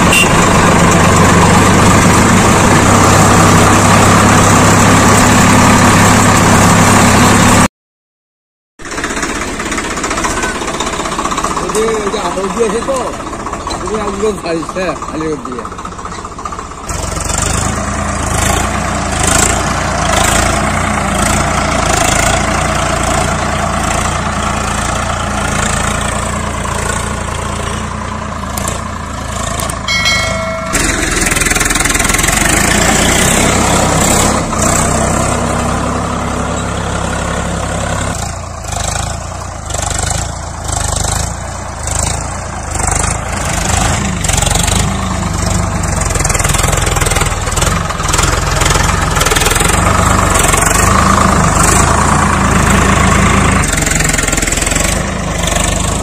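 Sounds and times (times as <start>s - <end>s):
tractor diesel engine under load: 0.0s - 7.7s, 8.8s - 56.0s.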